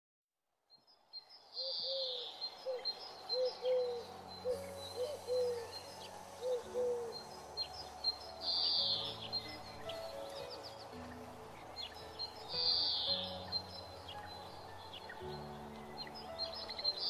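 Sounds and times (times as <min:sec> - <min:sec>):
small birds chirping: 0:00.7 - 0:17.0.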